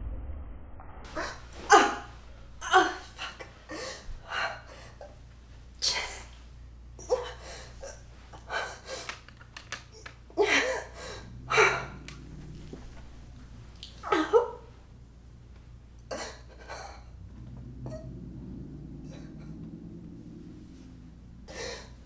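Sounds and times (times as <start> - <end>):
low steady hum: 1.0 - 22.0.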